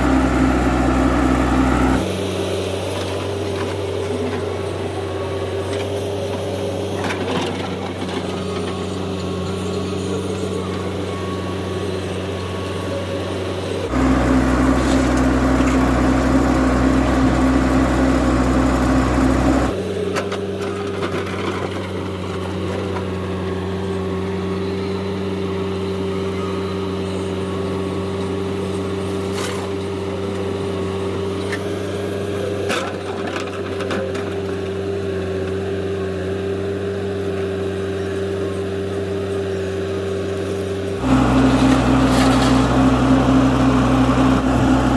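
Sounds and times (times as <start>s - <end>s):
diesel machinery engine running: 0.0s - 44.9s.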